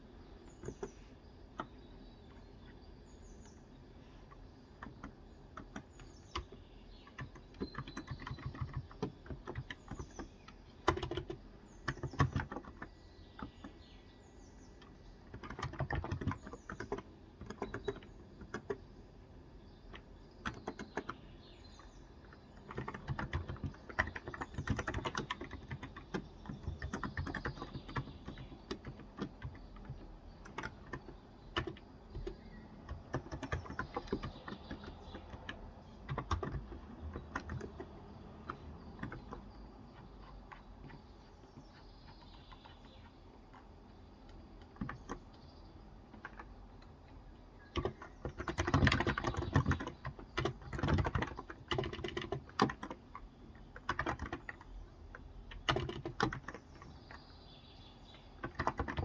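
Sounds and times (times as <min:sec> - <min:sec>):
typing on a keyboard: 0:00.6 - 0:01.0, 0:04.2 - 0:13.9, 0:14.7 - 0:18.9, 0:19.8 - 0:57.3, 0:58.1 - 0:59.0.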